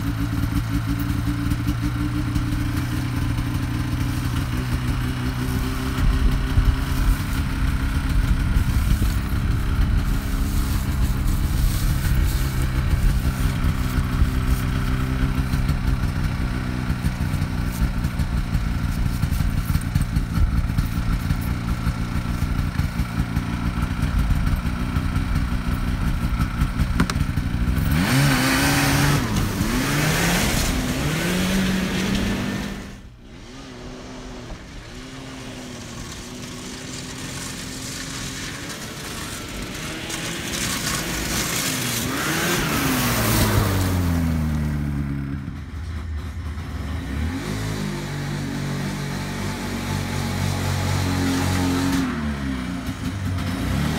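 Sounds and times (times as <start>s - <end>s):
snowmobile engine idling and revving: 0.0s - 53.9s.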